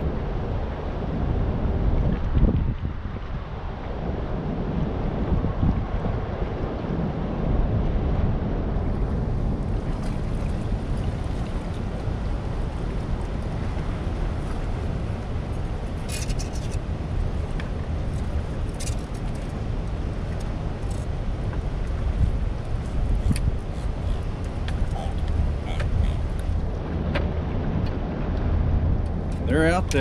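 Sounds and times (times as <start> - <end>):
churning water rushing: 0.0 - 30.0
wind buffeting microphone: 0.0 - 30.0.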